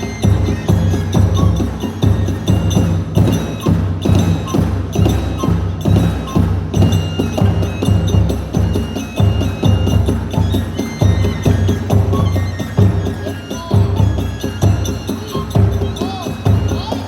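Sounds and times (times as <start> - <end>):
bamboo flute melody: 0.0 - 17.0
small hand cymbals: 0.0 - 17.0
taiko drums beaten fast: 0.0 - 17.0.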